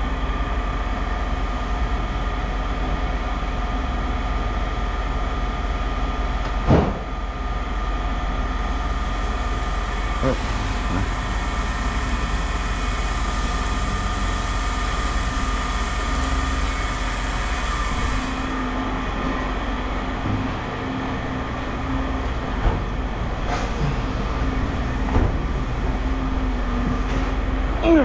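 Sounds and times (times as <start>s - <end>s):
low mechanical rumble with hum: 0.0s - 28.0s.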